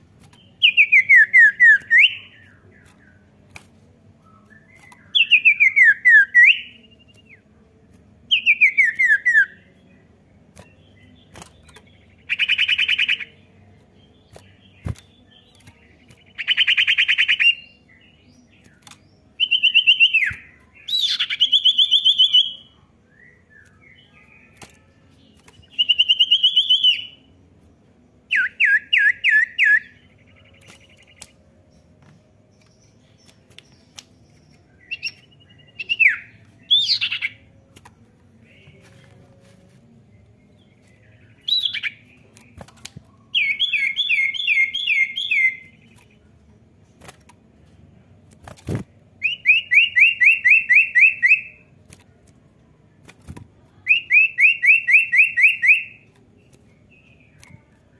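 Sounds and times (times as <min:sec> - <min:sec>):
bird song whistles and trills: 0:00.2 - 0:07.5, 0:08.2 - 0:27.4, 0:28.2 - 0:46.2, 0:48.7 - 0:51.8, 0:53.2 - 0:57.9.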